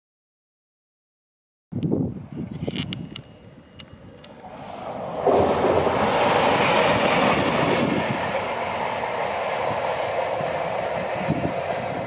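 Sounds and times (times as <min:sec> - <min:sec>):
diesel locomotive engine: 0:02.0 - 0:12.0.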